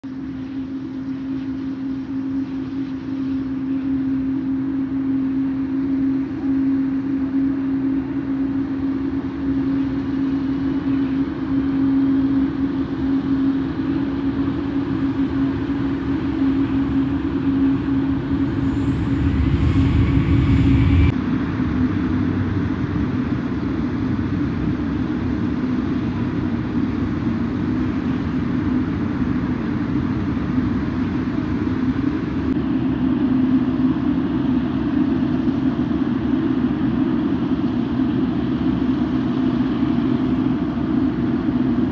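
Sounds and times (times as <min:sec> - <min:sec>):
jet engines droning: 0:00.0 - 0:41.9.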